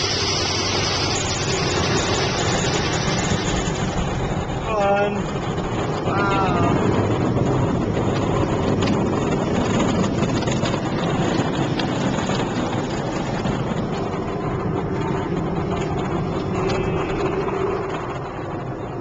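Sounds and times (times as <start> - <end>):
spinning car wash brushes: 0.0 - 4.6, 6.8 - 19.0.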